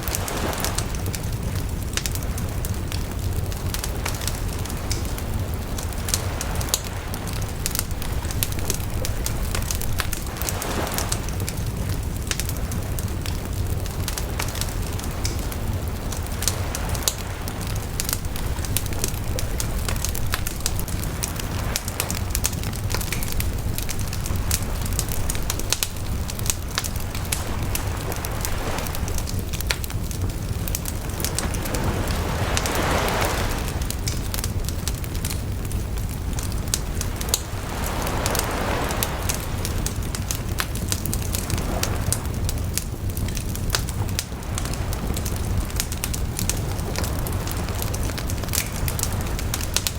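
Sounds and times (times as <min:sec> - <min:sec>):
fire hissing: 0:00.0 - 0:49.9
flames rumbling: 0:00.0 - 0:49.9
wood crackling and popping: 0:00.0 - 0:49.9.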